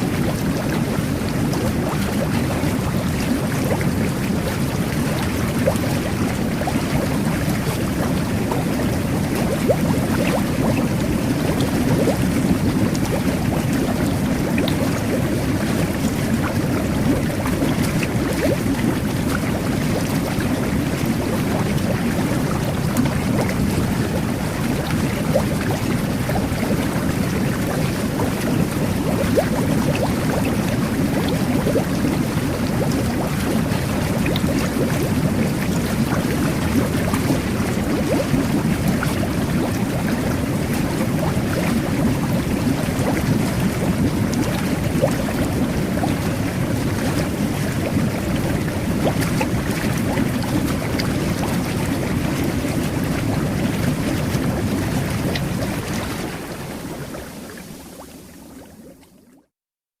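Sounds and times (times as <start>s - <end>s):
jet bath water rushing: 0.0s - 58.8s
small bubbles popping: 0.0s - 59.4s.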